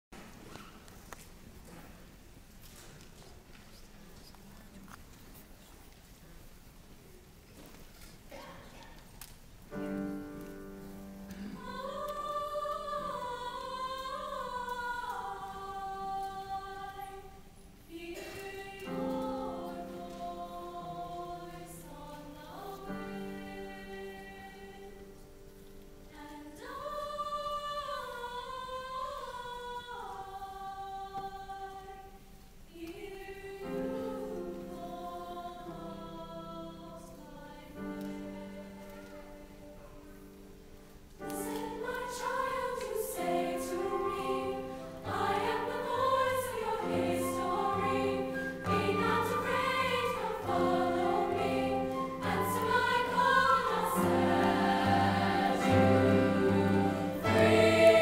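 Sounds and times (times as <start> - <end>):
girls' choir singing: 9.7 - 25.4, 26.0 - 40.6, 41.2 - 58.0.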